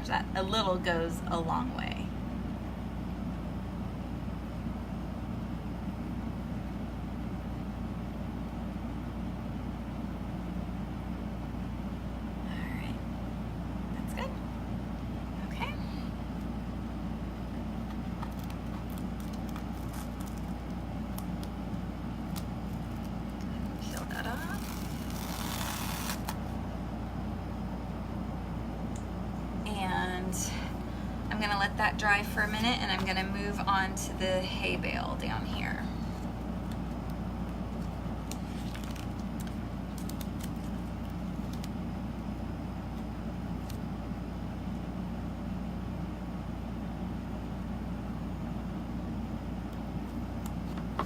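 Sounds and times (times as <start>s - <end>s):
low background hum: 0.0s - 51.0s.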